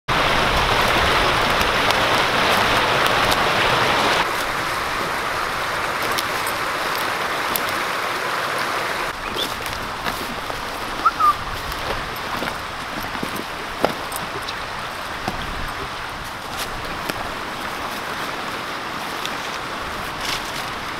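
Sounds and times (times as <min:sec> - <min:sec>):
creek babbling over rocks: 0:00.1 - 0:20.9.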